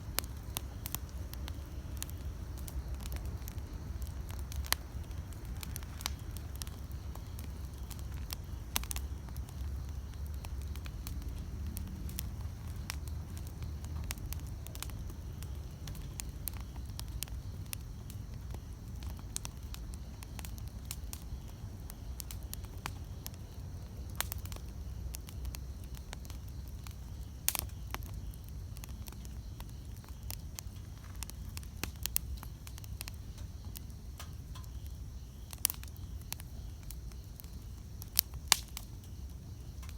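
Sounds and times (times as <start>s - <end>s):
campfire crackling and popping: 0.0s - 39.9s
low fire rumble: 0.0s - 39.9s.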